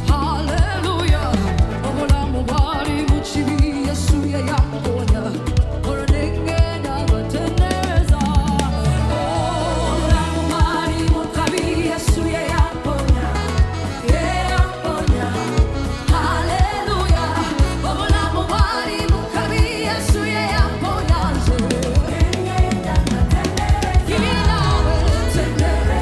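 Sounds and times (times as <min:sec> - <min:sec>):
band with steady drum beat: 0:00.0 - 0:26.0
gospel singing: 0:00.0 - 0:26.0.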